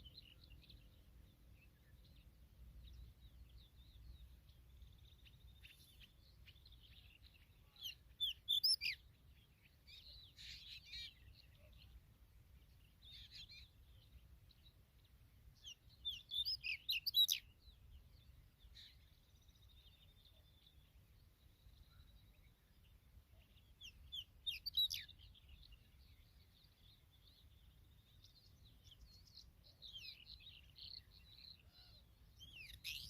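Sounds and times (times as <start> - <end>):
birds chirping rapidly: 0.0 - 12.0, 12.6 - 33.0
soft bird twittering: 0.0 - 12.0, 12.6 - 33.0.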